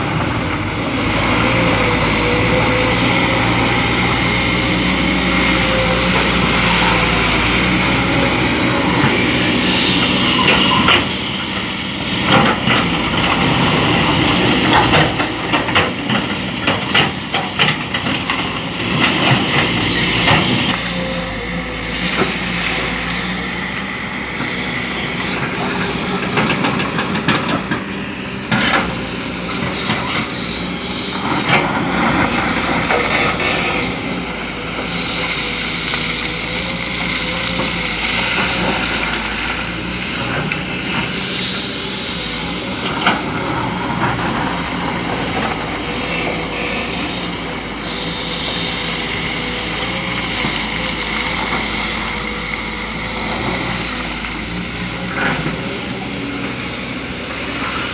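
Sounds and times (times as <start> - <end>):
excavator running with whine: 0.0 - 57.9.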